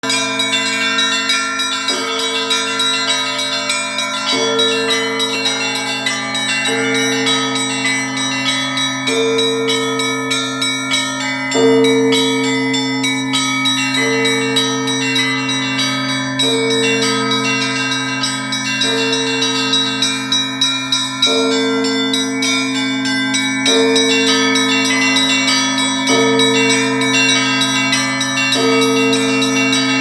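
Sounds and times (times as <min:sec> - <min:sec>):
deep bell ringing: 0:00.0 - 0:30.0
higher bells striking quickly: 0:00.0 - 0:30.0.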